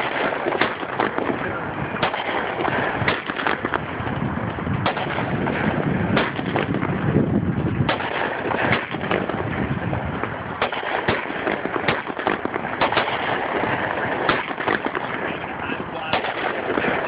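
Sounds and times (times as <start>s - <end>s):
firework bangs: 0.0s - 17.0s
steady noisy hiss: 0.0s - 17.0s.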